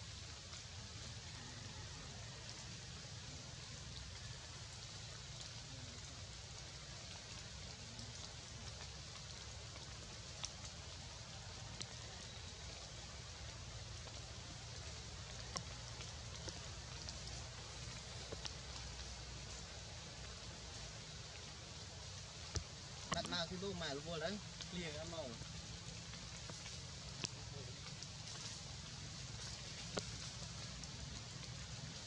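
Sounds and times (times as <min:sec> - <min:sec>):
forest ambience hiss: 0:00.0 - 0:32.0.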